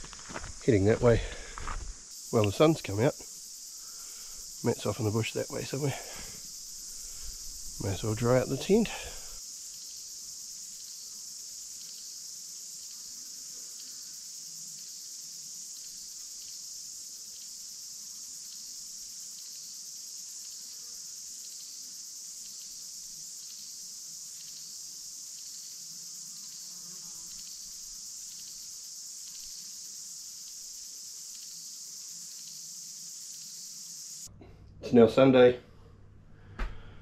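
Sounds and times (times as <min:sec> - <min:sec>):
insect chorus shrilling: 0:00.0 - 0:34.3.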